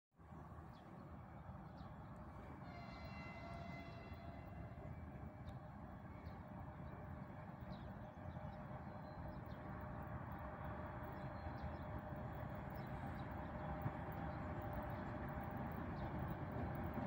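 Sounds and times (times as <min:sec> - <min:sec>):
distant train rumble: 0:00.3 - 0:17.0.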